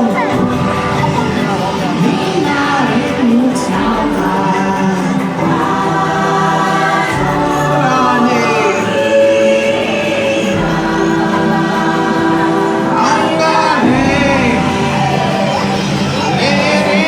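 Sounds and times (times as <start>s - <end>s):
choir singing held notes: 0.0s - 17.0s
music: 0.0s - 17.0s.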